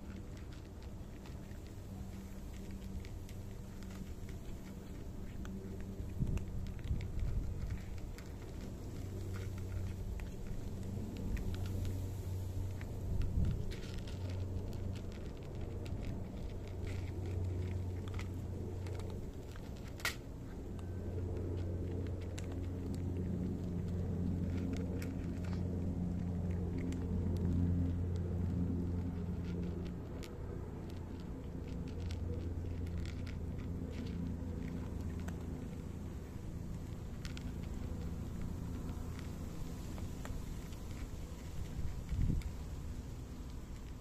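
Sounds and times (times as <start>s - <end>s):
cats crunching dry kibble: 0.0s - 44.0s
steady low hum: 0.0s - 44.0s.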